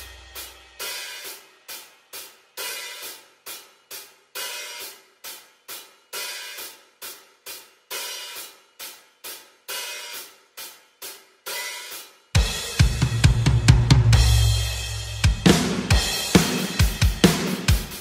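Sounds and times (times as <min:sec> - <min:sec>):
full drum kit: 0:00.0 - 0:18.0
hi-hat and cymbals: 0:00.0 - 0:18.0.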